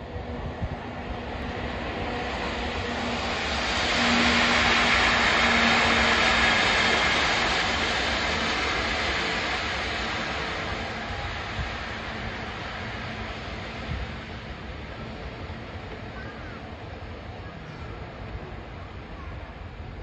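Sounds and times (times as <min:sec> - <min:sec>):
electric locomotive passing: 0:00.0 - 0:20.0.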